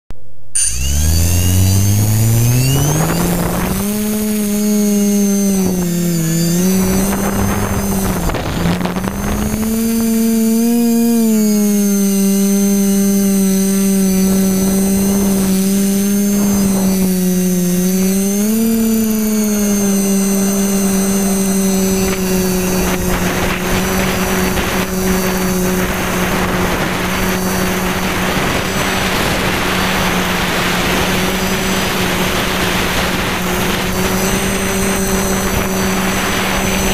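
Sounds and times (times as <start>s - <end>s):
drone propellers humming: 0.6s - 36.9s
wind noise on microphone: 0.7s - 36.9s.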